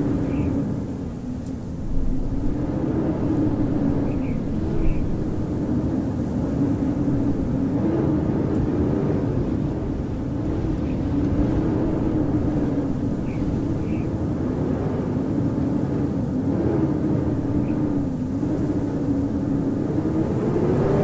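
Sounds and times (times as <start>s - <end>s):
howling wind: 0.0s - 21.0s.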